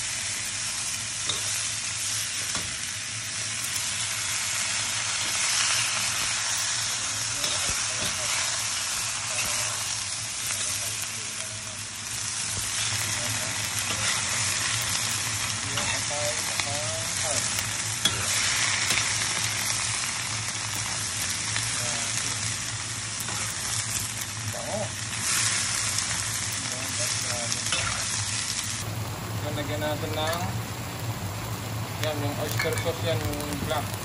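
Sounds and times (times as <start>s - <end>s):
meat sizzling in oil: 0.0s - 34.0s.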